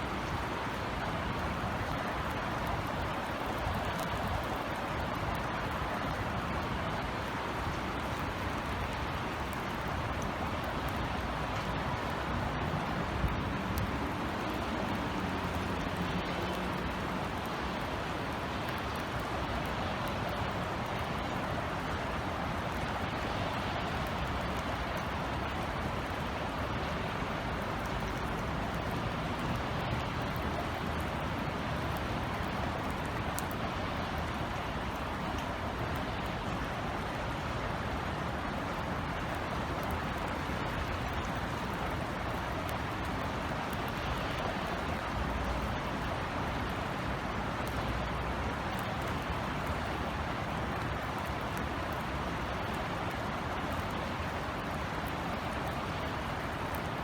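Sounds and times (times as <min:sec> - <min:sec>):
low city rumble: 0:00.0 - 0:56.8
rain drop ticks: 0:00.0 - 0:57.0
steady rain hiss: 0:00.0 - 0:57.0.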